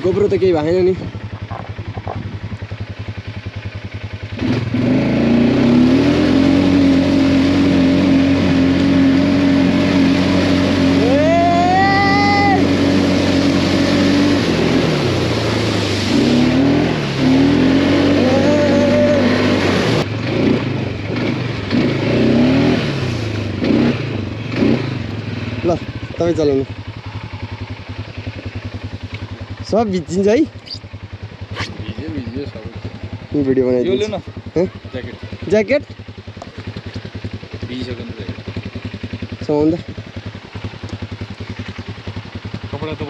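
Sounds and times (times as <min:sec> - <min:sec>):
quad bike engine revving: 0:00.0 - 0:43.0.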